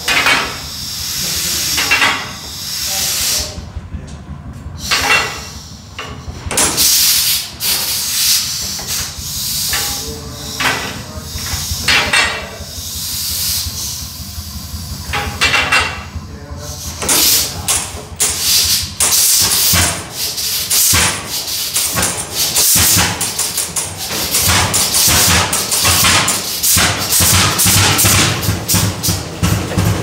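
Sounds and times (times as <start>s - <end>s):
tractor engine exhaust bangs: 0.0s - 30.0s.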